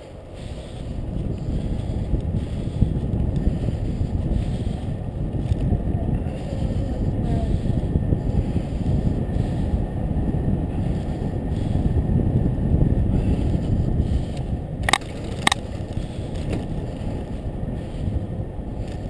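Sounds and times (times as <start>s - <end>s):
bicycle tyres rumbling on pavement: 0.0s - 19.0s
wind on microphone: 0.0s - 19.0s.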